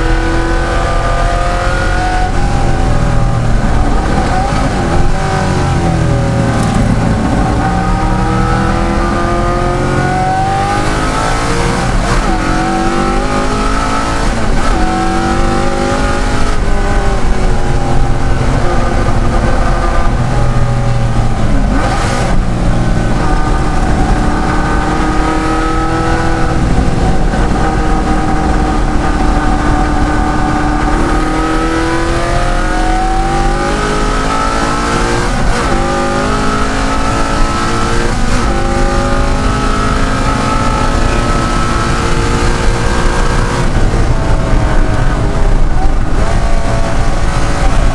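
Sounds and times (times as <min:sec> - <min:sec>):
car engine racing: 0:00.0 - 0:47.9.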